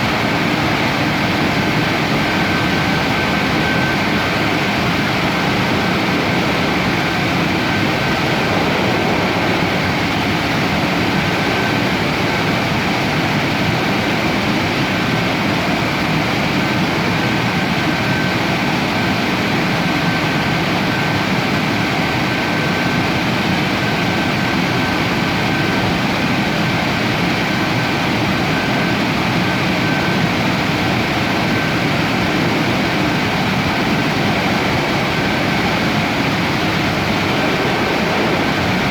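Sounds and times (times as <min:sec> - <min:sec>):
car wash machinery rushing: 0:00.0 - 0:15.5, 0:22.9 - 0:38.9
faint high whine: 0:00.0 - 0:16.0, 0:16.9 - 0:38.9.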